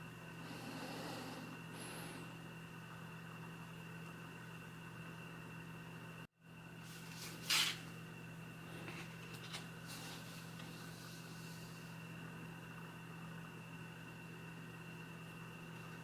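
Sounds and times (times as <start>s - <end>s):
low electrical hum: 0.0s - 16.0s
thin high whine: 0.0s - 16.0s.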